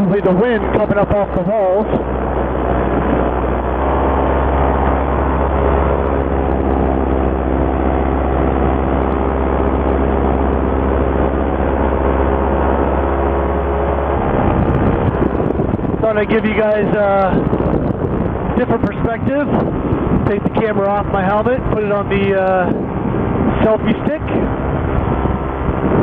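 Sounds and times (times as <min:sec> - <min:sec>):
paramotor engine and propeller drone: 0:00.0 - 0:26.0.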